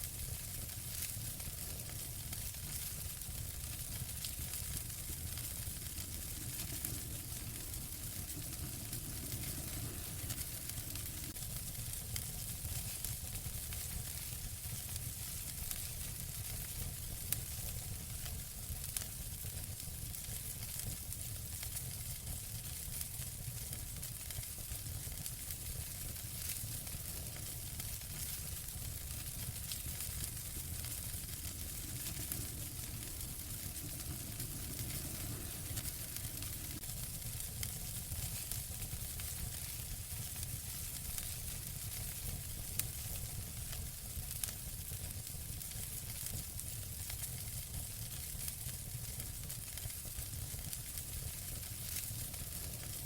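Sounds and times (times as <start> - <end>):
wood fire crackling: 0.0 - 53.0
sharp pops from fire: 0.3 - 53.0.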